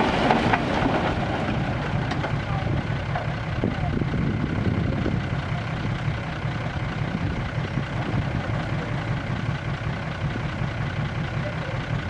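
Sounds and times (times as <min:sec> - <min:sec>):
dump truck engine idling: 0:00.0 - 0:12.0.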